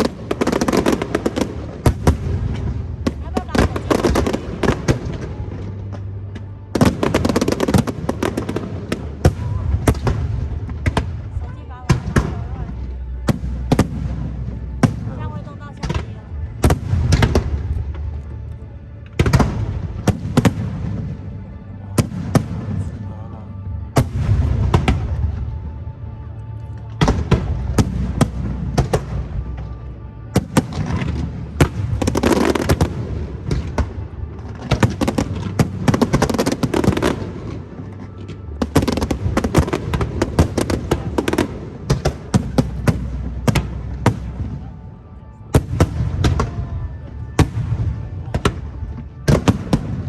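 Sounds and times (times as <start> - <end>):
aerial fireworks bangs and crackles: 0.0 - 18.2, 19.0 - 21.3, 27.0 - 29.7, 30.3 - 44.7, 45.5 - 50.0.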